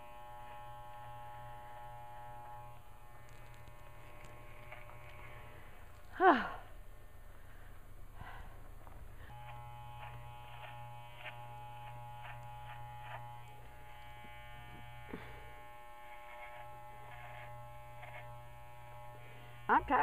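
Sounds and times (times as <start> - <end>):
electric clippers buzzing: 0.0 - 6.2, 9.1 - 20.0.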